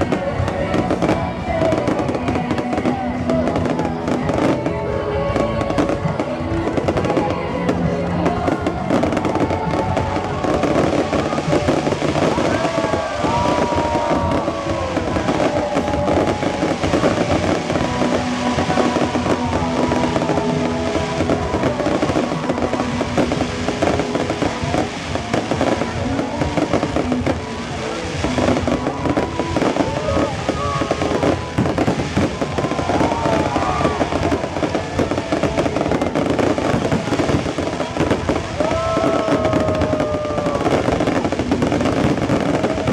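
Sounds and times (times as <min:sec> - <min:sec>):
fireworks bangs and crackling: 0:00.0 - 0:42.9
music: 0:00.0 - 0:42.9
voices: 0:00.0 - 0:42.9.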